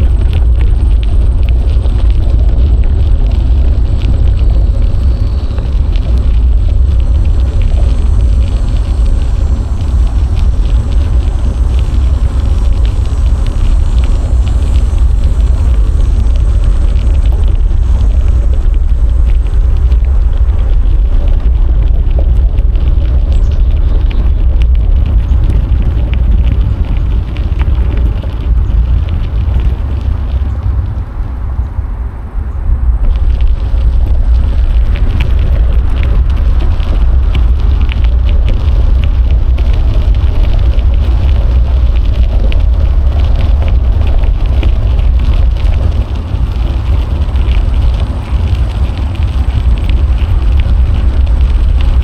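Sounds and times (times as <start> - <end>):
tyre and road noise: 0.0 - 52.0
wind buffeting microphone: 0.0 - 52.0.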